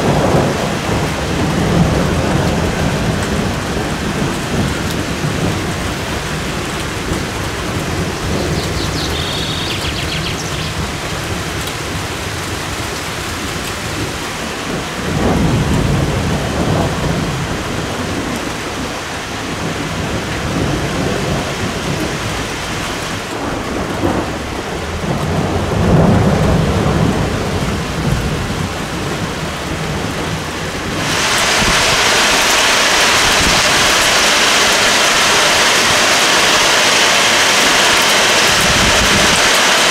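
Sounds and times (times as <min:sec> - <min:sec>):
steady rain pouring: 0:00.0 - 0:39.9
thunder rumbling: 0:00.0 - 0:39.9.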